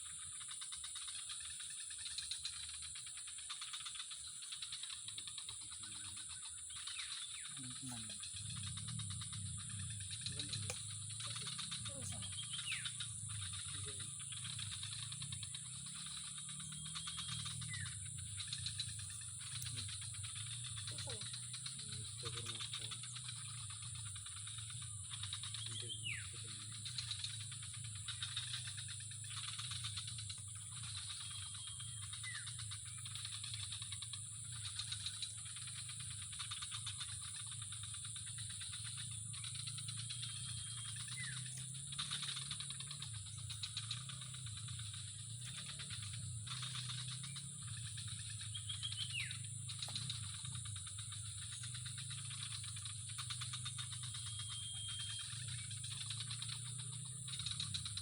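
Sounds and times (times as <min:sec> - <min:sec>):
insects buzzing and chirping: 0:00.0 - 0:58.0
low steady hum: 0:04.2 - 0:58.0.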